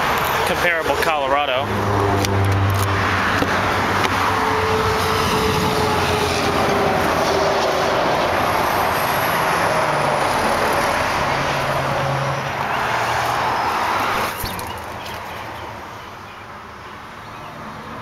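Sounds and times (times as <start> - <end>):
highway traffic roar: 0.0 - 18.0.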